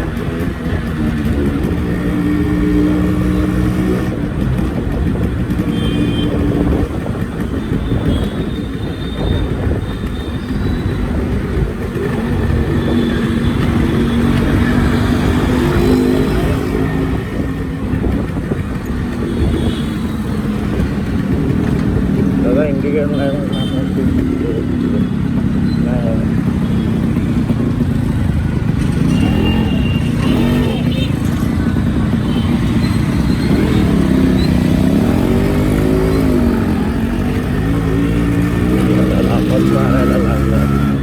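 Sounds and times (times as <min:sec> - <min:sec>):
two-stroke motorcycle engine running: 0:00.0 - 0:41.0.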